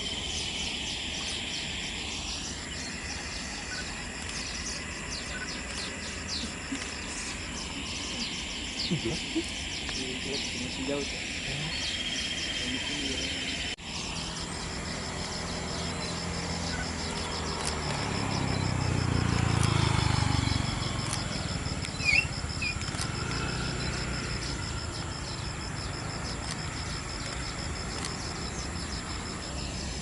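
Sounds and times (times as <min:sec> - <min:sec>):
bird chirping: 0:00.0 - 0:30.0
distant jet engines rumbling: 0:00.0 - 0:30.0
insect trill: 0:00.0 - 0:30.0.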